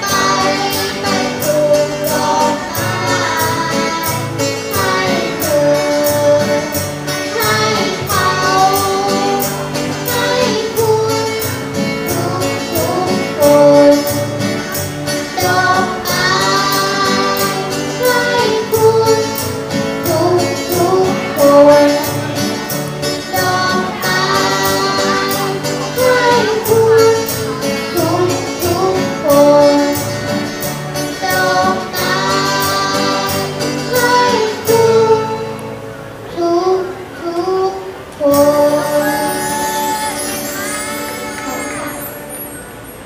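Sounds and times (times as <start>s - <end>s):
child singing: 0.0s - 42.6s
acoustic guitar: 0.0s - 43.0s.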